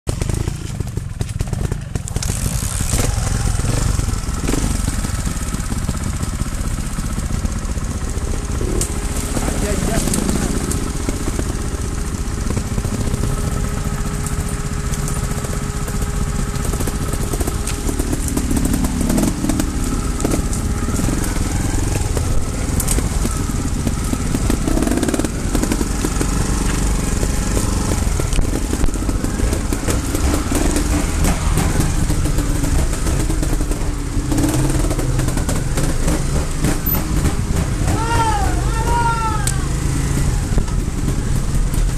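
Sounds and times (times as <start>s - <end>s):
motorcycle engine revving: 0.1s - 41.9s.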